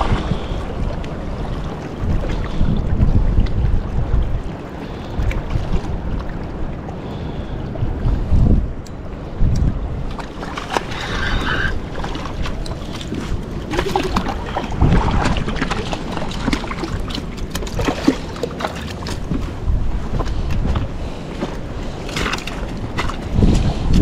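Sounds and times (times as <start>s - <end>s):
rush of outdoor noise: 0.0s - 24.0s
wind buffeting microphone: 0.0s - 24.0s.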